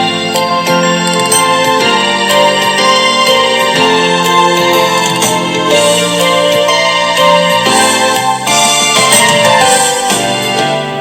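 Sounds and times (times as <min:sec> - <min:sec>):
keyboard melody music: 0:00.0 - 0:11.0.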